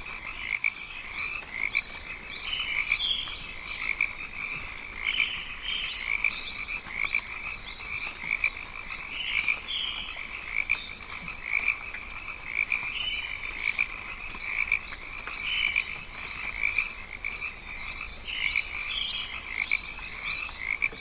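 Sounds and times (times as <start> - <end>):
frogs croaking: 0.0 - 21.0.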